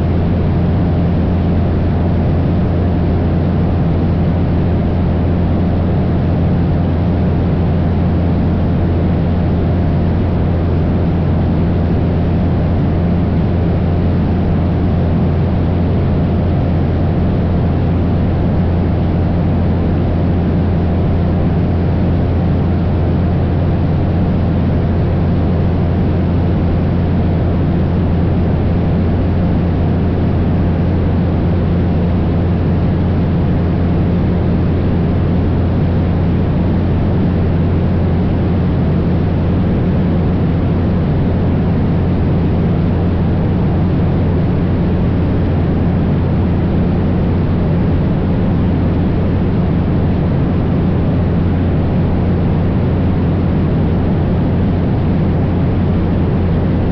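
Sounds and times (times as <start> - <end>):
airplane engine and propeller drone: 0.0 - 56.9
steady rush of noise: 0.0 - 56.9.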